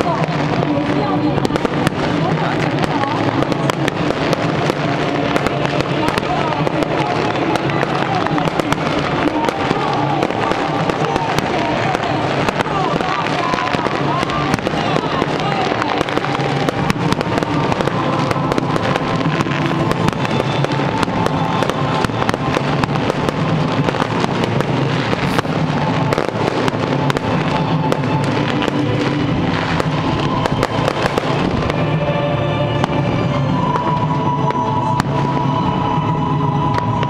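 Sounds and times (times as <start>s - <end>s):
fireworks bursting and crackling: 0.0s - 37.0s
music playing: 0.0s - 37.0s.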